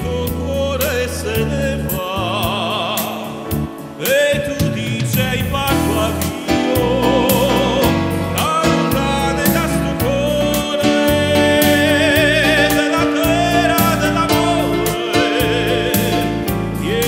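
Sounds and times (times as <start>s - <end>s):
electric keyboard: 0.0s - 17.0s
man singing with vibrato: 0.0s - 17.0s.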